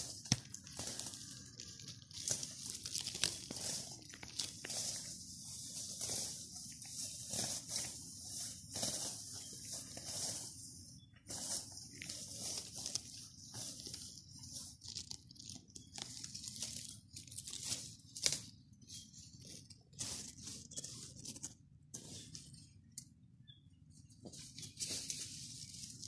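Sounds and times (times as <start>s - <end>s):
dry leaves rustling and crackling: 0.0s - 22.6s, 24.2s - 26.0s.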